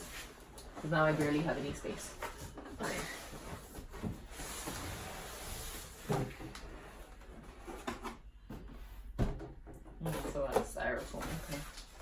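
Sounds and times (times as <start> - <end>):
cardboard rustling and scraping: 0.0 - 9.2, 10.0 - 12.0.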